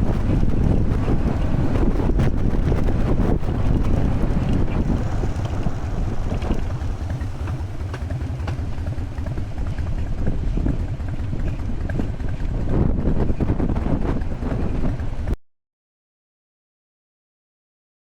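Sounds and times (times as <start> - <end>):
motorcycle engine rumbling: 0.0 - 15.4
wind buffeting microphone: 0.0 - 15.4.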